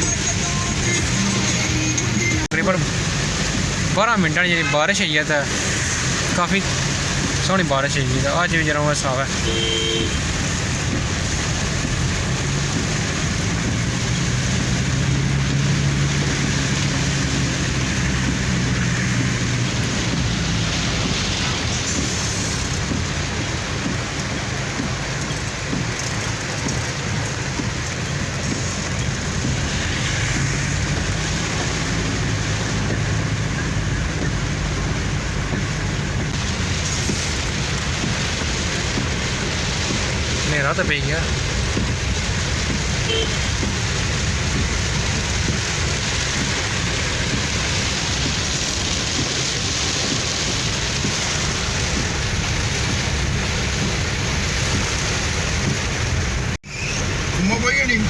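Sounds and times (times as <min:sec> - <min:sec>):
car engine hum: 0:00.0 - 0:58.0
heavy rain falling: 0:00.0 - 0:58.0.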